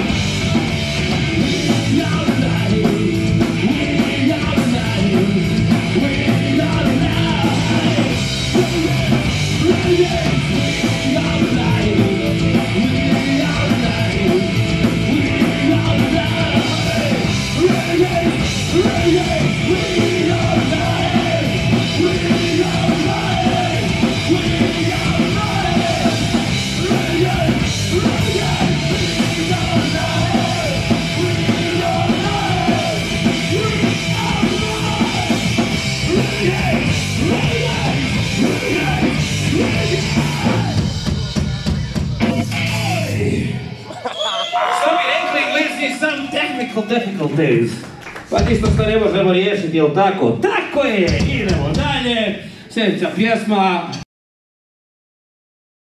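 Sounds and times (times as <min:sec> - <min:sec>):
electric guitars: 0:00.0 - 0:46.0
bass guitar: 0:00.0 - 0:46.4
shouted lead vocals: 0:00.0 - 0:47.8
drums: 0:00.0 - 0:54.0.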